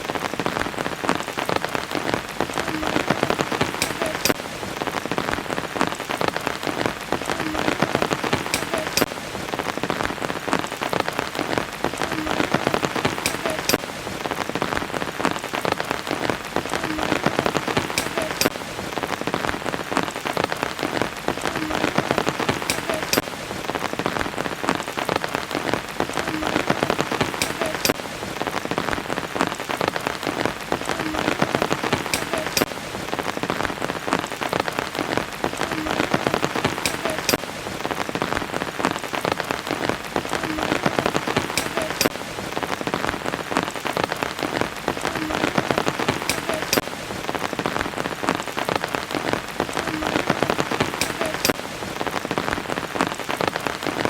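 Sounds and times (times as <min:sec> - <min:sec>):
raindrop ticks: 0:00.0 - 0:54.0
steady rain: 0:00.0 - 0:54.0.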